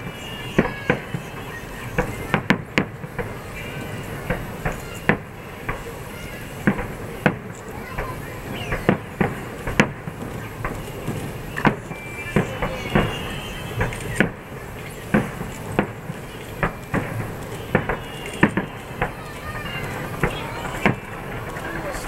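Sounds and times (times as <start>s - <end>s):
firework shells bursting: 0.0s - 22.0s.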